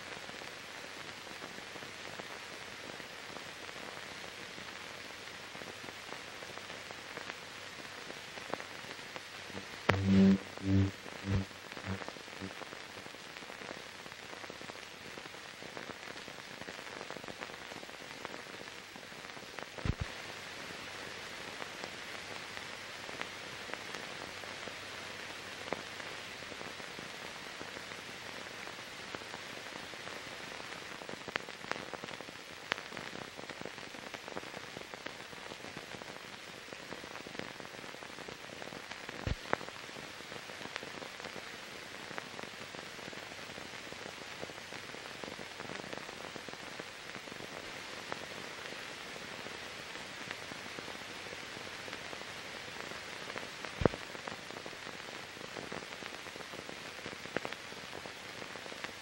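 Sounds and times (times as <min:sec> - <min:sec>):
film hiss with crackles: 0:00.0 - 0:59.0.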